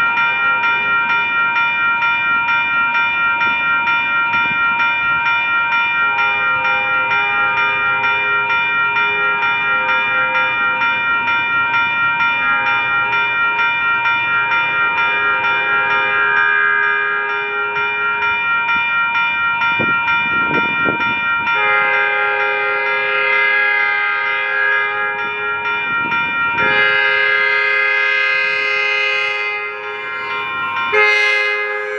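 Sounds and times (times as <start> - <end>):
crossing bell ringing: 0.0 - 31.9.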